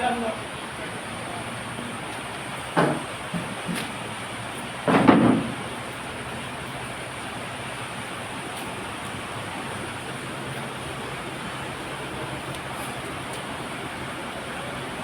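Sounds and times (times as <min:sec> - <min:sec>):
furnace roaring: 0:00.0 - 0:15.0.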